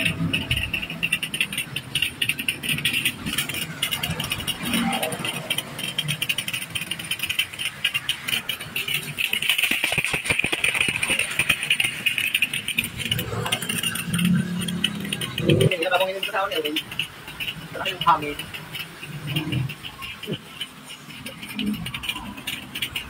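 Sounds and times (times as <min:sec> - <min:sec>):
pressure washer spraying metal fins: 0:00.0 - 0:23.0.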